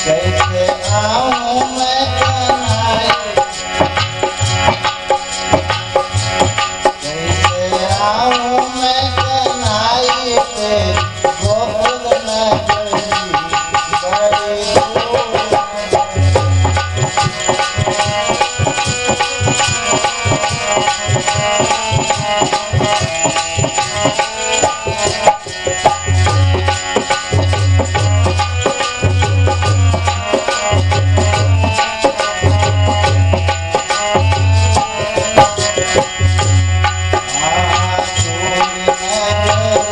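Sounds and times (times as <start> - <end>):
gliding melody line: 0.0 - 39.9
hand drums playing rhythm: 0.0 - 39.9
sustained melodic accompaniment: 0.0 - 39.9.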